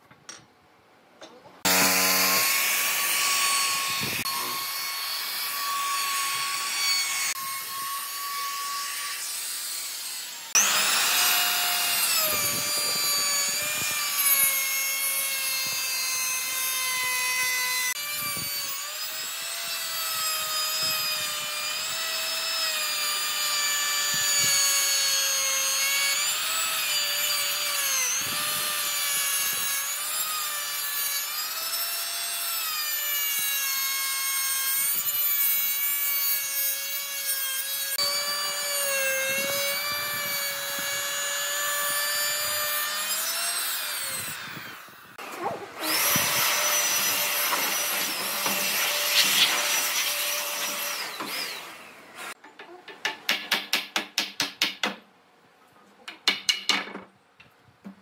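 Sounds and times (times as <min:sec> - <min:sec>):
power tool motor cutting wood: 0:01.6 - 0:33.8, 0:34.4 - 0:52.4.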